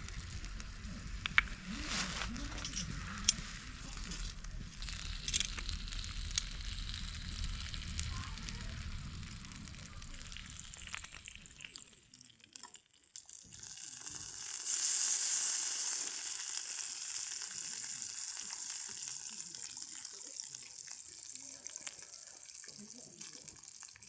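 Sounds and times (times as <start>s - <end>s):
campfire crackling: 0.0s - 24.0s
food sizzling on grill: 0.0s - 24.0s.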